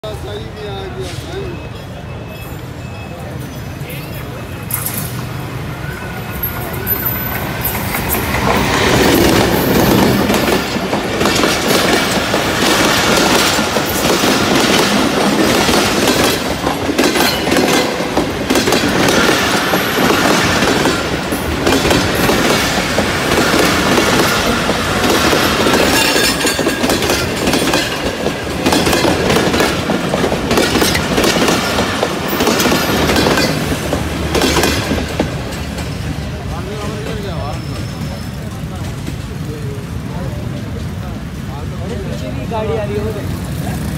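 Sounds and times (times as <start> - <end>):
diesel locomotive passing: 3.2 - 43.9
train wheels clattering over rails: 6.4 - 43.9.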